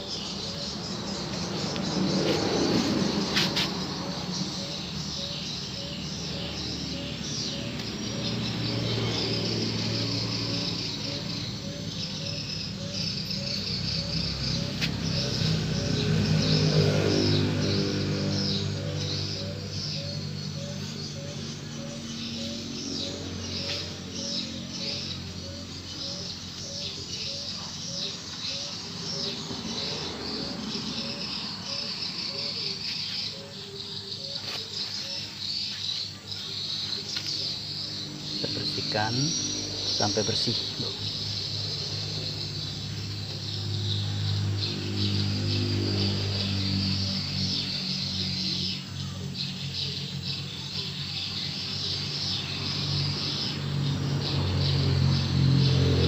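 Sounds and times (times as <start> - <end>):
birds calling: 0.0 - 56.0
high insect-like chirping: 0.0 - 56.0.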